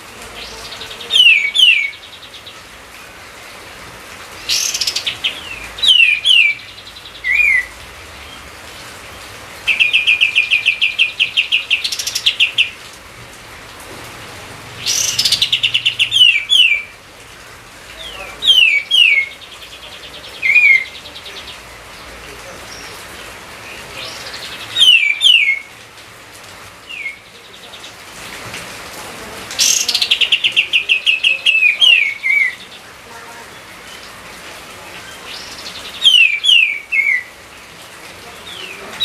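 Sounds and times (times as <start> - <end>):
songbird singing: 0.0 - 13.6, 14.4 - 39.0.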